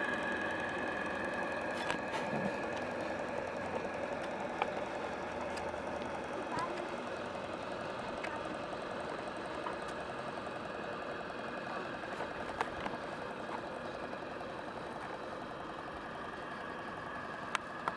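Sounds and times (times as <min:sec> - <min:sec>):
model steam engine beating: 0:00.0 - 0:17.9.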